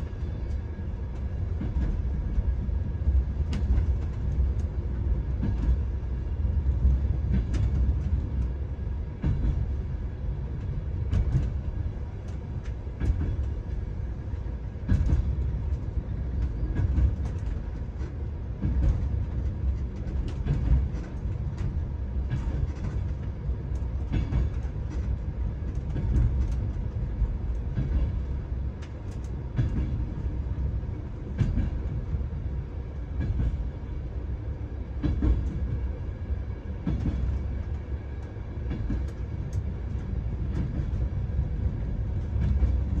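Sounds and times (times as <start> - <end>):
train carriage rumbling: 0.0 - 43.0.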